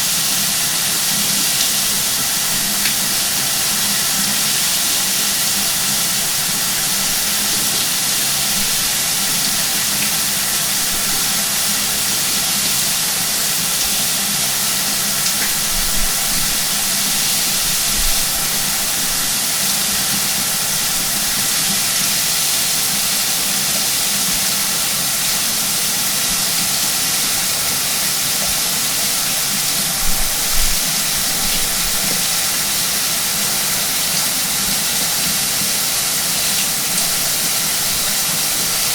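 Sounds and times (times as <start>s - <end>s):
shower water spraying: 0.0s - 38.9s.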